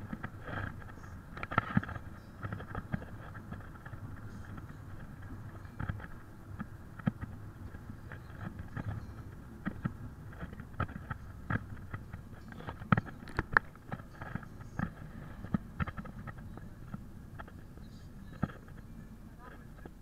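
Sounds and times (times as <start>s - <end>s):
car road and engine noise: 0.0s - 20.0s
sharp clicks and knocks: 0.0s - 20.0s.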